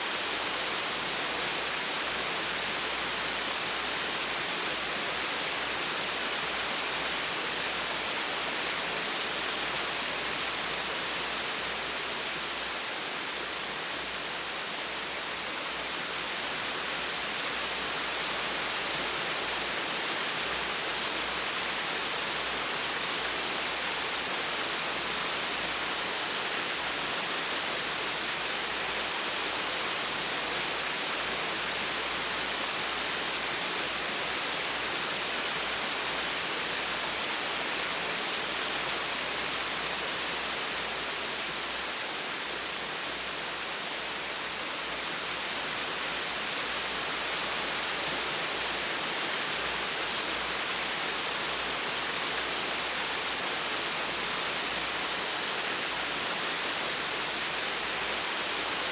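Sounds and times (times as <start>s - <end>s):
small waterfall splashing: 0.0s - 58.9s.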